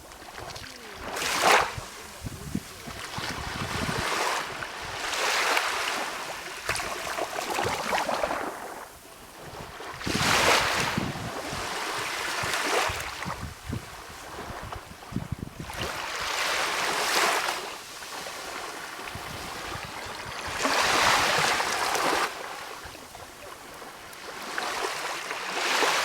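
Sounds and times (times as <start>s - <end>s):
small waves washing in: 0.0s - 26.0s.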